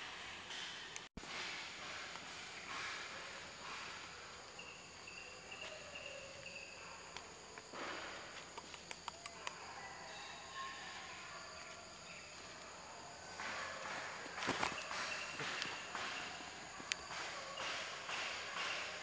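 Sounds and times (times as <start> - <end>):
insects trilling: 1.8 - 19.0.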